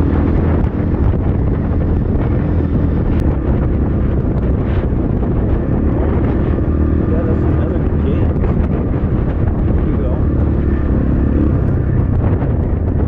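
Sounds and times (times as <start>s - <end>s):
dirt bike engine running: 0.0s - 13.0s
wind buffeting microphone: 0.0s - 13.0s.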